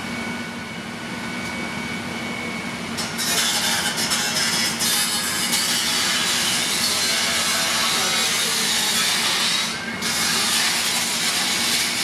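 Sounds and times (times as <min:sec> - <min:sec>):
fire engine engine and pump humming: 0:00.0 - 0:12.0.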